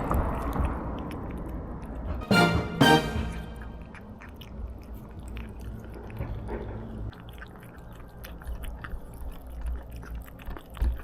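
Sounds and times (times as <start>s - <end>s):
cats chewing food: 0.0s - 2.3s, 3.5s - 11.0s.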